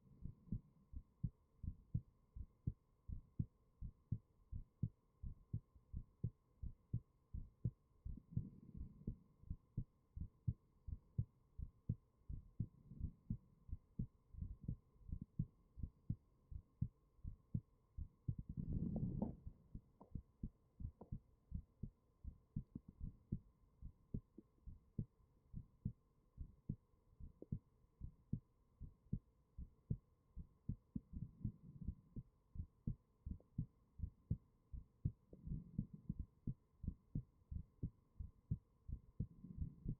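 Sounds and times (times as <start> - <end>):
heartbeat thumps: 0.2 - 39.9.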